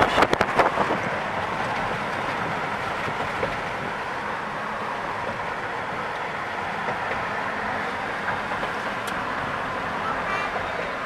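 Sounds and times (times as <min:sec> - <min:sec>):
car road and tyre noise: 0:00.0 - 0:11.0.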